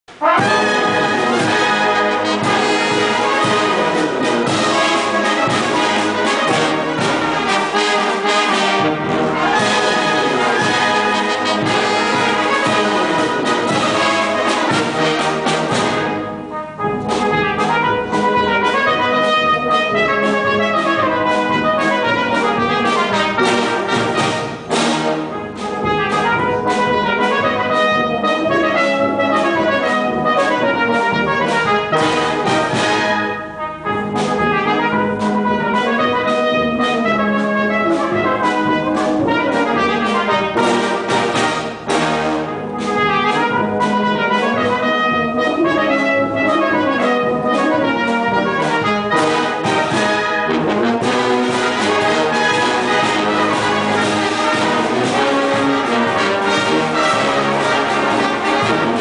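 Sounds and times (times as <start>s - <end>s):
brass band playing a march: 0.1s - 59.0s.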